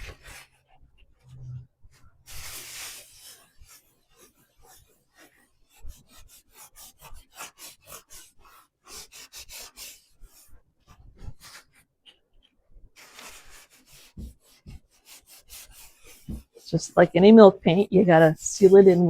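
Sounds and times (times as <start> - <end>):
wax rubbing on wood: 2.3 - 11.8, 13.0 - 19.0.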